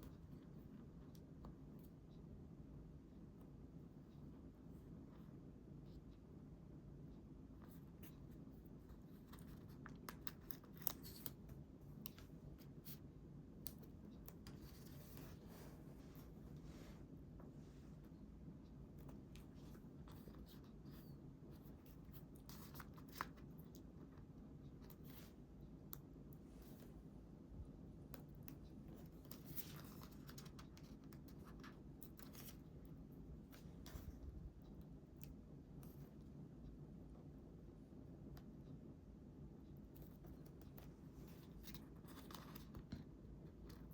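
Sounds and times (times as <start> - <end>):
low room hum: 0.0 - 43.9.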